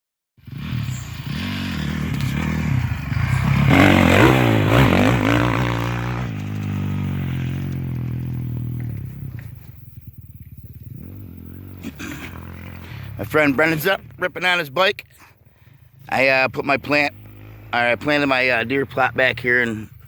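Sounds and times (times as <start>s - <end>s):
dirt bike engine revving: 0.4s - 20.0s.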